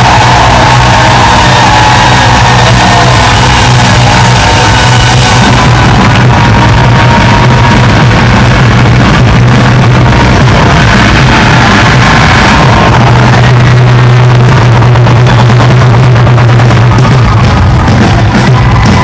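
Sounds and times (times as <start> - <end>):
rock band with orchestra: 0.0 - 19.0.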